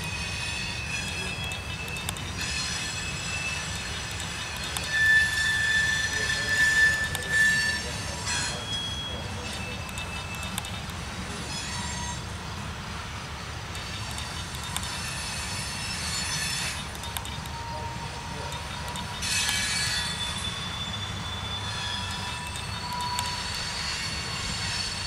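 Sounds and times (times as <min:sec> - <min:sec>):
high-pitched wheel squeal: 0:00.0 - 0:12.3, 0:13.8 - 0:25.0
train wheels rumbling on rail: 0:00.0 - 0:25.0.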